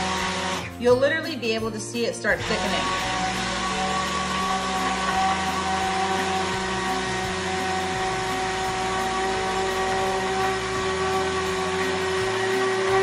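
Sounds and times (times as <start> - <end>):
immersion blender motor humming: 0.0 - 0.7, 2.4 - 13.0.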